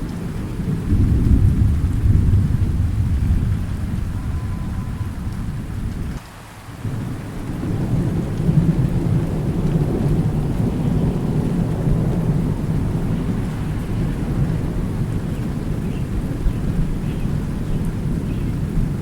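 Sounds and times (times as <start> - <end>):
thunder rumbling: 0.0 - 6.2, 6.8 - 19.0
steady rain: 0.0 - 19.0.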